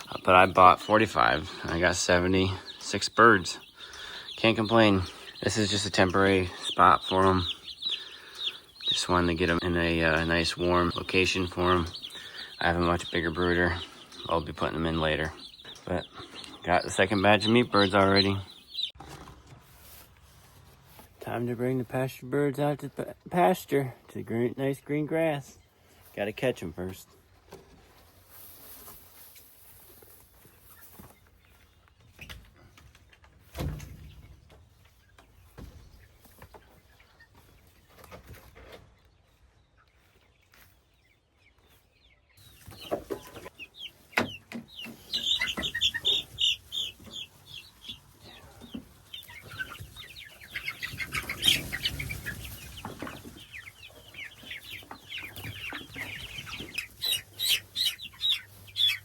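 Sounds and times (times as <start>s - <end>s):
chicks peeping loudly: 0.0s - 59.0s.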